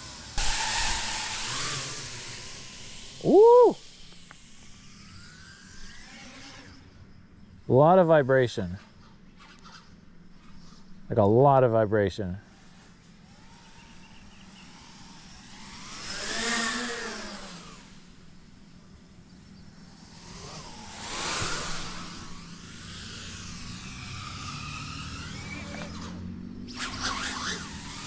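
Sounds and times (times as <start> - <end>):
drone motor and propeller whine: 0.0 - 11.8, 12.4 - 28.0
steady low hum: 0.0 - 28.0.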